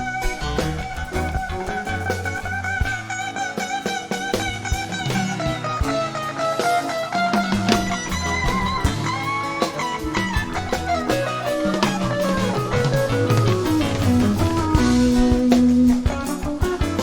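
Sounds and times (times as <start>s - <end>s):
bass: 0.0s - 17.0s
drums: 0.0s - 17.0s
lead guitar line: 0.0s - 17.0s.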